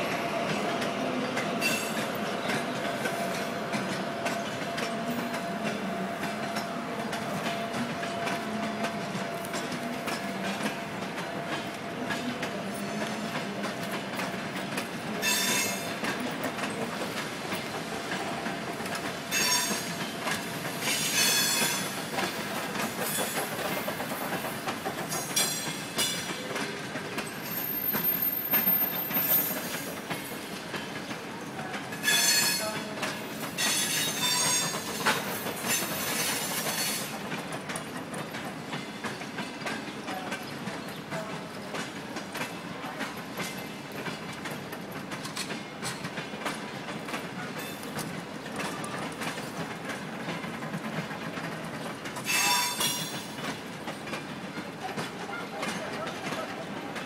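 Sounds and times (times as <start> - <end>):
train rolling rumble: 0.0 - 57.0
train wheels squealing on rails: 0.0 - 57.0.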